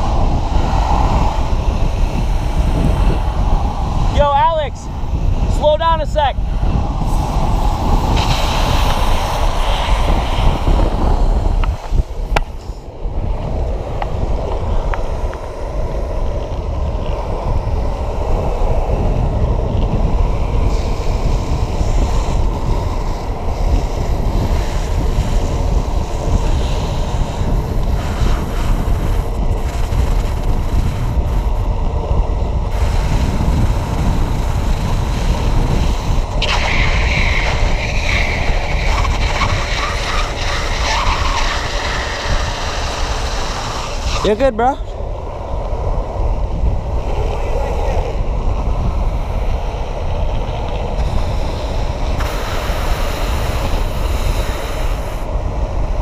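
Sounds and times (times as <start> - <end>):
rolling road roar: 0.0 - 56.0
wind buffeting microphone: 0.0 - 56.0.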